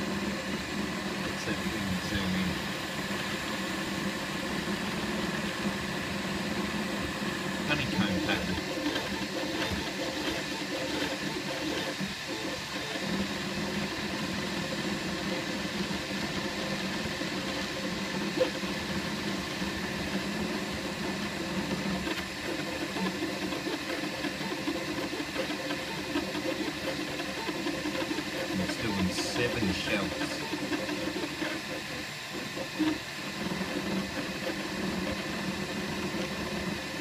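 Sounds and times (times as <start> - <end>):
printer stepper motors whining: 0.0 - 37.0
steady hum: 0.0 - 37.0.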